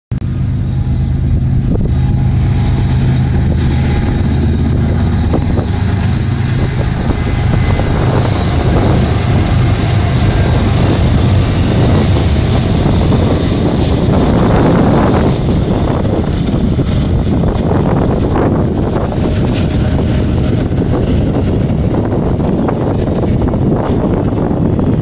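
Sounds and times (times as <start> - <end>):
diesel locomotive engine hum: 0.1 - 25.0
train wheels rumbling on rail: 0.2 - 25.0
wind buffeting microphone: 0.2 - 25.0.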